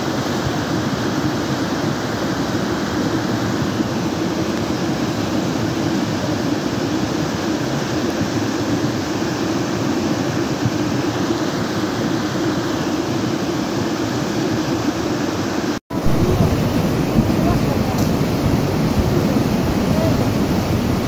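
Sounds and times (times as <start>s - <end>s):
rushing flood water rumble: 0.0s - 21.0s.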